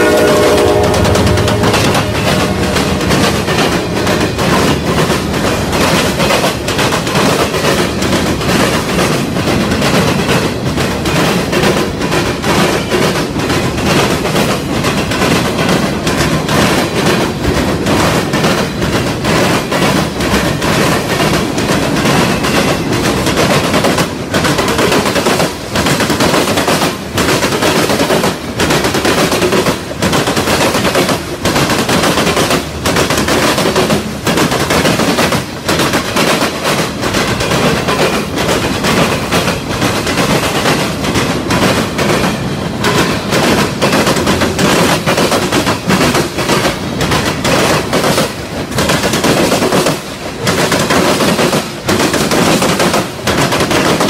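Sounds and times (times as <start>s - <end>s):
freight train passing: 0.0s - 54.0s
steel wheels clattering on rails: 0.0s - 54.0s.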